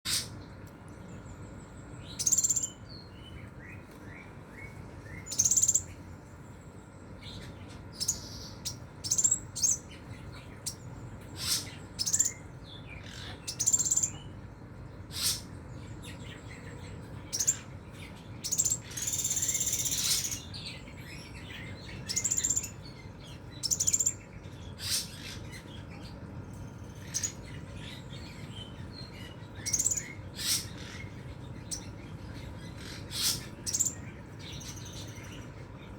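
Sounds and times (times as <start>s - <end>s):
sunbird singing: 0.1s - 35.9s.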